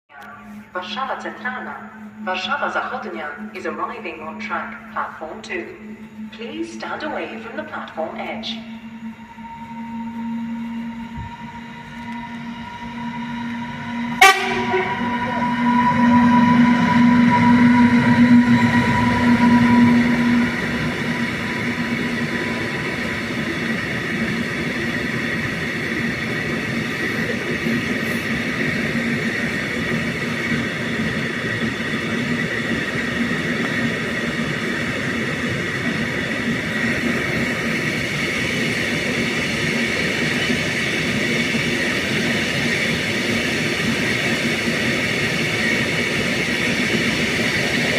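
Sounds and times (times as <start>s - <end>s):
steady train tones: 0.0s - 47.9s
freight train passing: 0.1s - 47.9s
wheels rumbling on rail: 0.1s - 47.9s.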